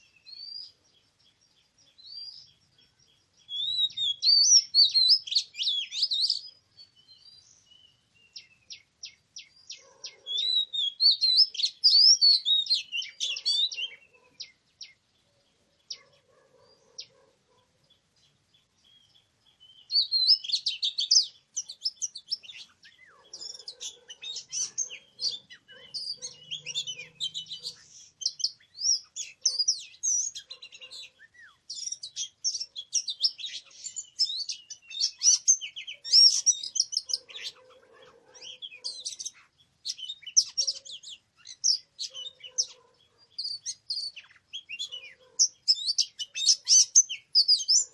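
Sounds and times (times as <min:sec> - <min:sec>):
magpie-robin singing: 0:00.0 - 0:47.9.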